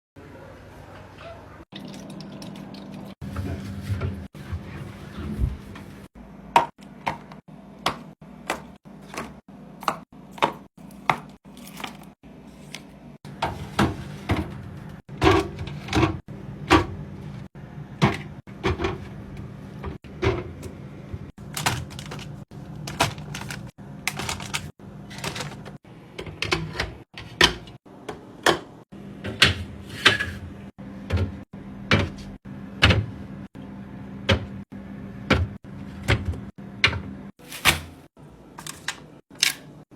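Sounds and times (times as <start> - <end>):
items clacking in refrigerator: 3.3 - 33.1, 35.2 - 39.9.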